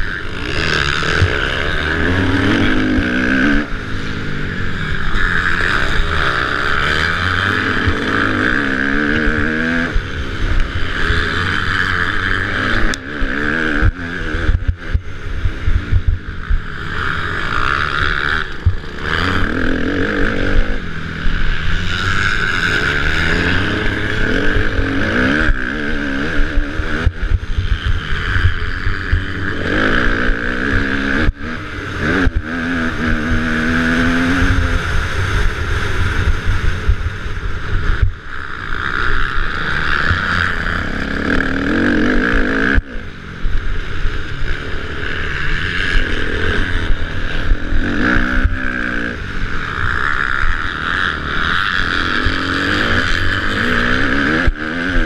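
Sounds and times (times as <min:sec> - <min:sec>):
off-road race engine revving: 0:00.0 - 0:55.0
wind rumble on microphone: 0:00.0 - 0:55.0.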